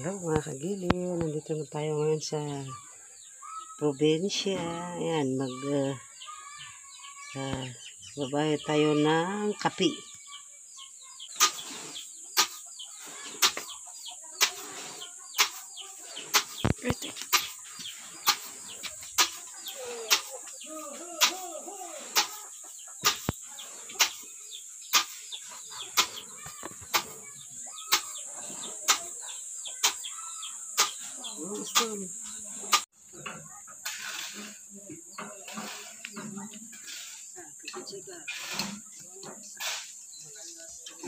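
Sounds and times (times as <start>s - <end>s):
chickens clucking: 4.2s - 41.0s.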